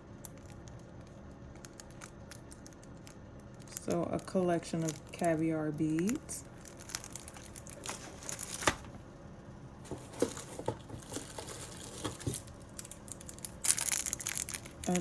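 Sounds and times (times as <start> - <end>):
packaging tearing: 0.2 - 8.9, 9.9 - 15.0
packaging rustling and crinkling: 0.2 - 9.0, 9.8 - 15.0.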